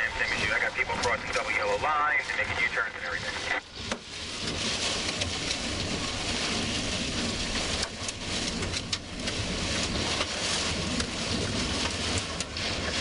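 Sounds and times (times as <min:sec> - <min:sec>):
car rumbling on road: 0:00.0 - 0:13.0
rain and wind on car: 0:00.0 - 0:13.0.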